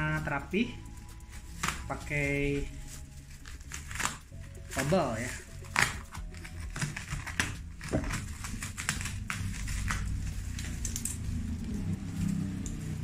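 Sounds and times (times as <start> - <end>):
bubble wrap crinkling and crackling: 0.0 - 13.0
low steady hum: 0.0 - 13.0.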